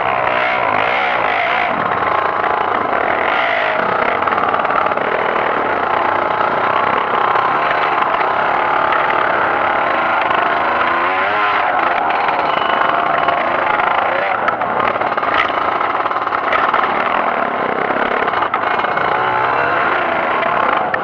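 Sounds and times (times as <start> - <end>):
motorcycle engine running hard: 0.0 - 21.0.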